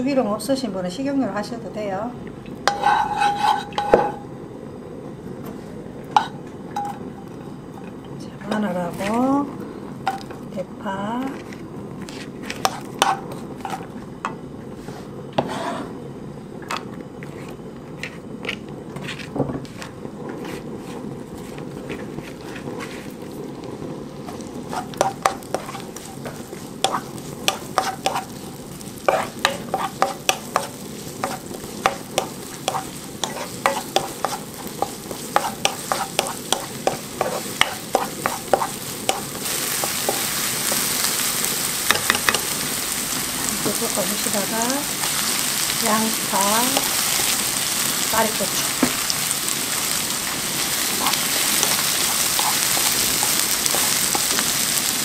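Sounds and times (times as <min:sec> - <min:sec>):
oil sizzling: 0:00.0 - 0:55.0.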